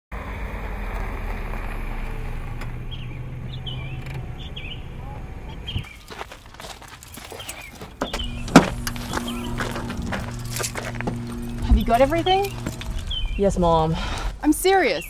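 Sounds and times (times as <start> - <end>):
car engine rumble: 0.2 - 5.9, 7.9 - 14.7
birds chirping: 2.6 - 15.0.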